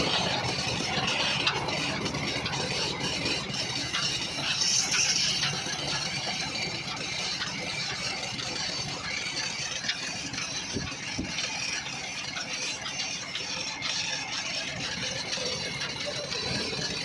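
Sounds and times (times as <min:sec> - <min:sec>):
wood lathe running: 0:00.0 - 0:17.0.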